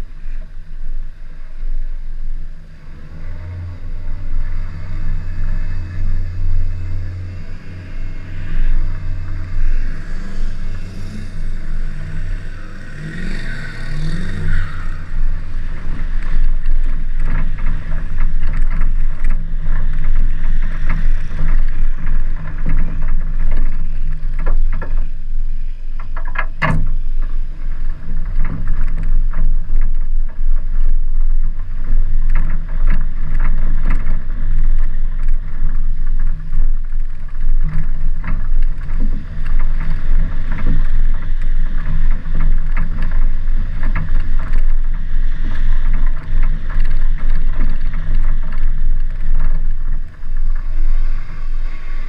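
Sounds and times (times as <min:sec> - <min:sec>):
car engine droning: 0:00.0 - 0:52.0.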